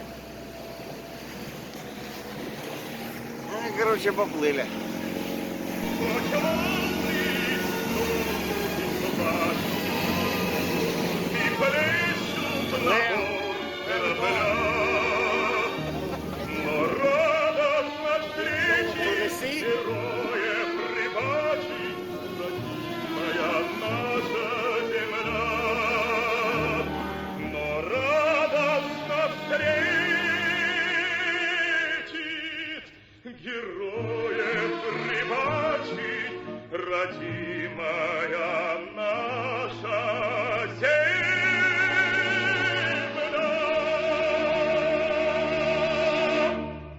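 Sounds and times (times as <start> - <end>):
person singing with vibrato: 4.7 - 46.8.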